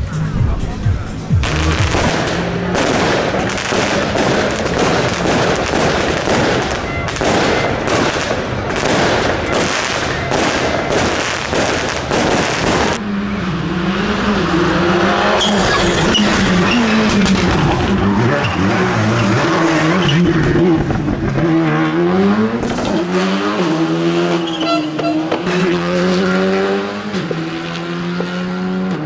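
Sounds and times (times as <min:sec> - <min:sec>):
tyre and gravel noise: 0:00.0 - 0:27.5
rally car engine running hard: 0:00.0 - 0:29.0.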